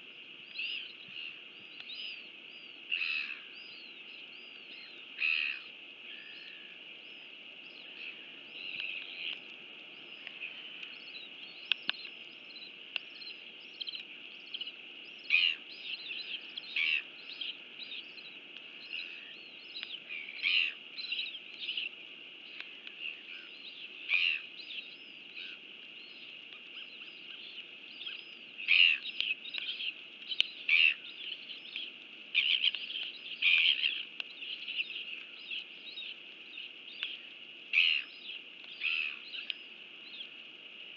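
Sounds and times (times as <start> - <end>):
songbirds chirping: 0.0 - 40.9
steady background hiss: 0.0 - 40.9.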